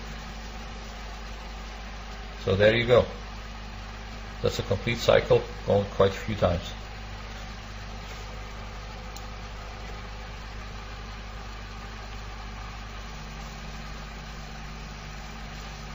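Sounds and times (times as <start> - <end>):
electric motor humming: 0.0 - 15.9.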